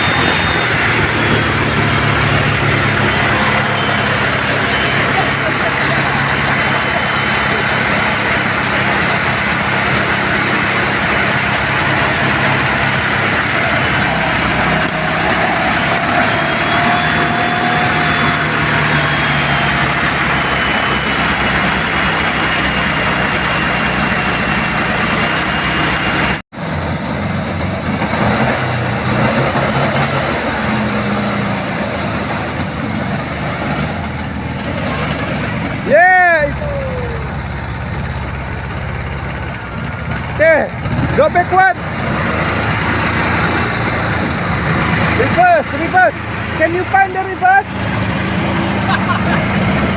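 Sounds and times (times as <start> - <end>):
car engine idling: 0.0 - 28.2, 30.2 - 49.9.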